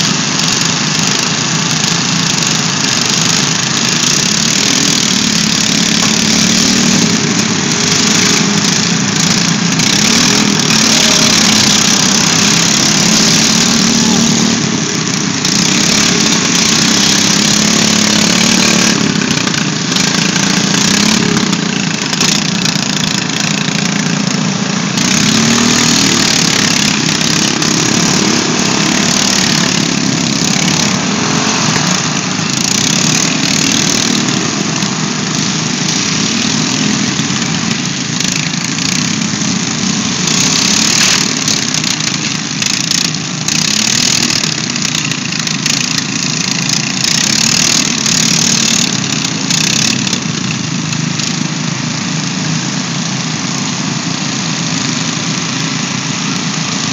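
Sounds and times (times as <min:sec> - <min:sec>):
lawn mower engines revving: 0:00.0 - 0:56.9.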